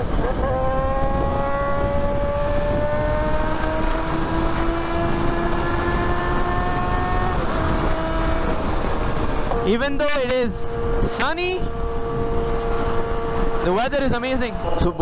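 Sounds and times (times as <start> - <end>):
motorcycle engine at speed: 0.0 - 15.0
wind rush on microphone: 0.0 - 15.0.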